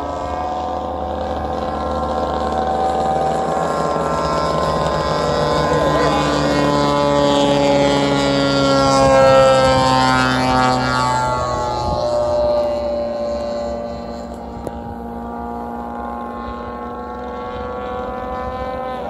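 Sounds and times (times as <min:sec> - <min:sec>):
model airplane engines in flight: 0:00.0 - 0:19.0.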